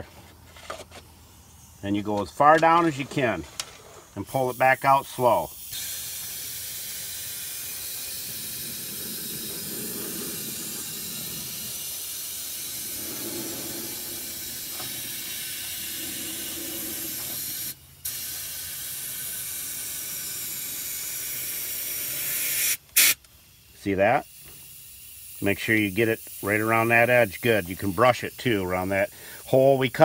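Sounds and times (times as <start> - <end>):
spray gun hissing: 4.4 - 29.6.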